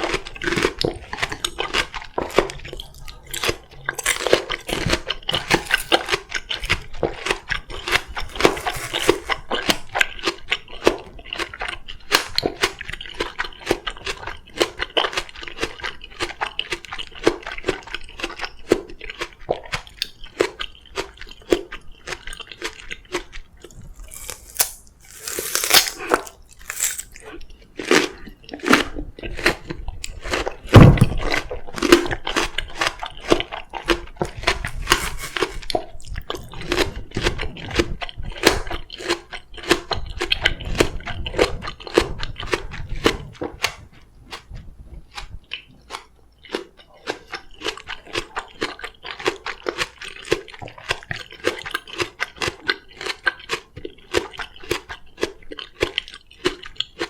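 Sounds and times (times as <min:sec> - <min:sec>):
wet crunchy melon chewing: 0:00.0 - 0:57.0.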